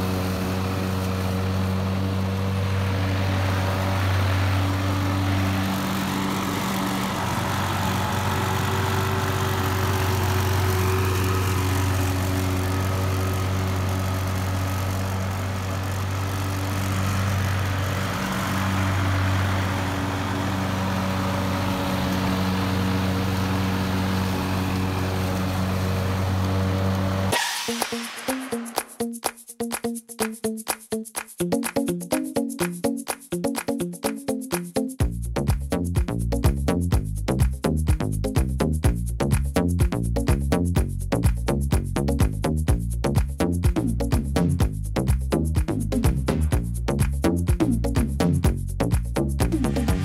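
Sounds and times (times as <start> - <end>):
lawn mower engine running: 0.0 - 29.0, 31.4 - 50.0.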